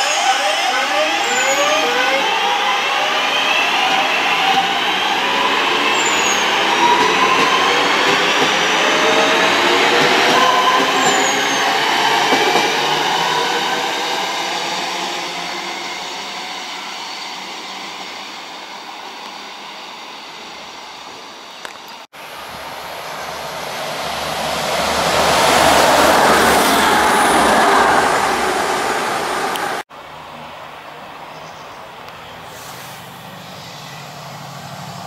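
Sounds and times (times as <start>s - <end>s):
electric train running on track: 0.0s - 30.4s, 33.2s - 35.0s
train rumble and rushing wheels: 0.0s - 31.0s, 32.0s - 35.0s.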